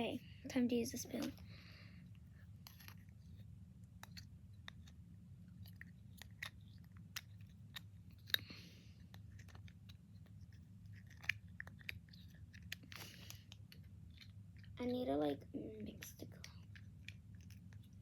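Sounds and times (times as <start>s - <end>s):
faint low steady hum: 0.0s - 18.0s.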